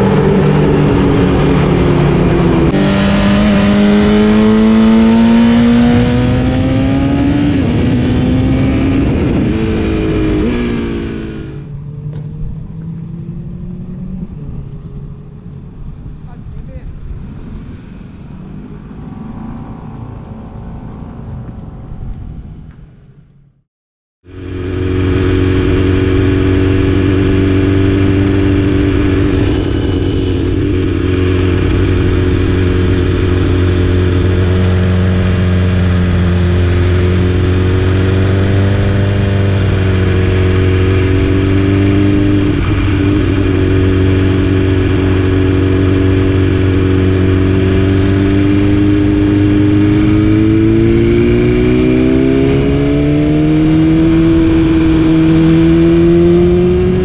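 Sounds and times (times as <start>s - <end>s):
motorcycle engine revving: 0.0s - 23.6s, 24.2s - 57.0s.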